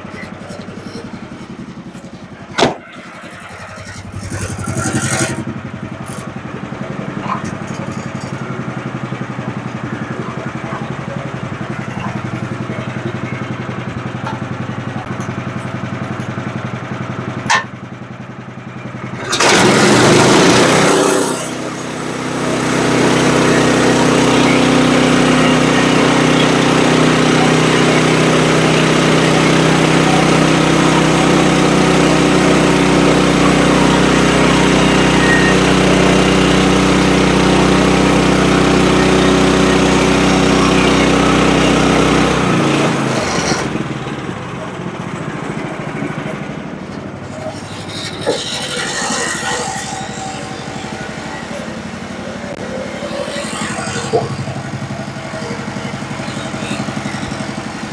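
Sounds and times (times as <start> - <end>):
small gas engine running: 0.0 - 57.9.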